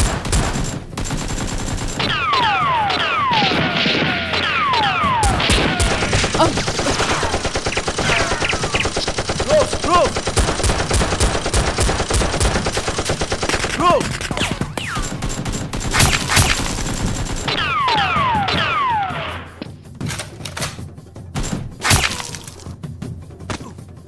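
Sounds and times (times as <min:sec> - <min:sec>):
rapid automatic gunfire: 0:00.0 - 0:19.3.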